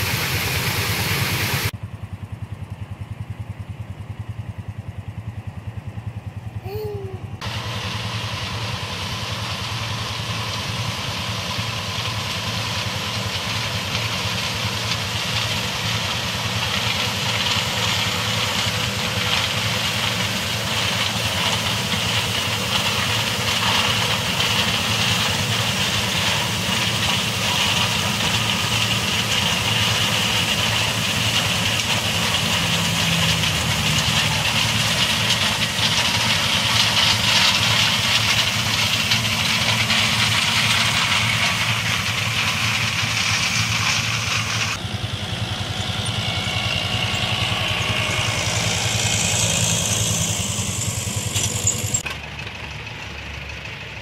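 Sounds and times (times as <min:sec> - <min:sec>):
diesel engine drone: 0:00.0 - 0:54.0
threshing machinery whirring: 0:06.7 - 0:52.6.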